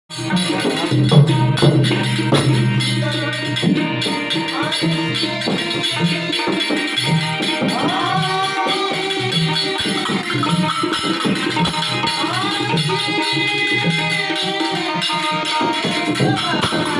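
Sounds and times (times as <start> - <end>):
hand drums in steady rhythm: 0.1 - 16.9
jingling hand percussion: 0.1 - 16.9.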